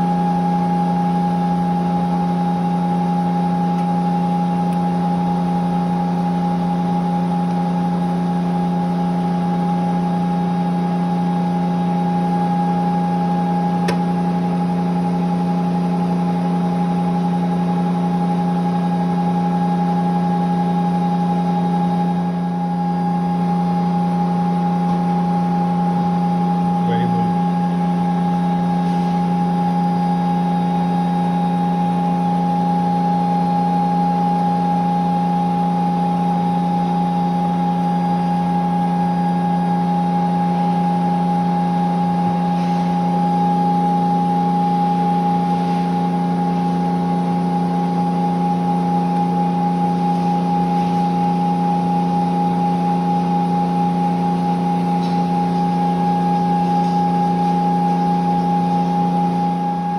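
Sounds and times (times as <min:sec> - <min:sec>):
grinder high whine: 0:00.0 - 0:59.9
grinder low hum: 0:00.0 - 0:59.9.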